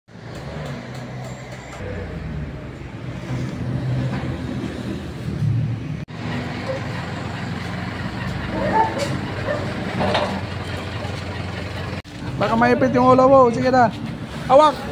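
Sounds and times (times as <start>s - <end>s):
vehicle engine humming: 0.1s - 14.3s.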